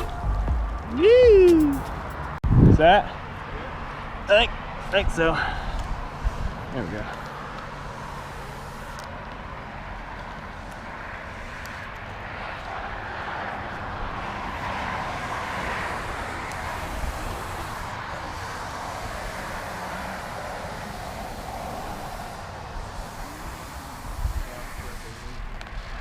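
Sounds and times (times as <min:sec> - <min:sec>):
distant engine noise: 0:00.0 - 0:02.4, 0:03.0 - 0:26.0.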